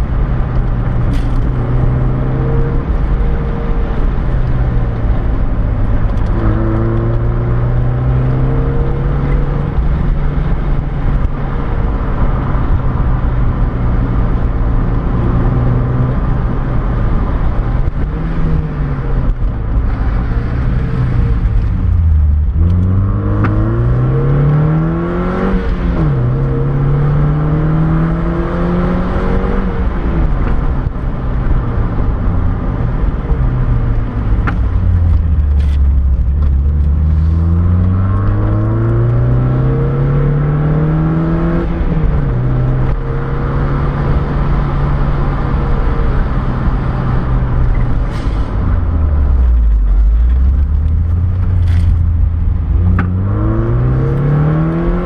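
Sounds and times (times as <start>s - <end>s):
car engine from inside: 0.0s - 55.0s
road and wind noise: 0.0s - 55.0s.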